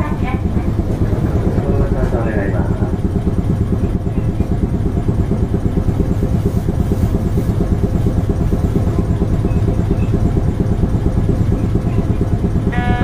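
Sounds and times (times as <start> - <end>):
tram cabin rumble with flutter: 0.0 - 13.0.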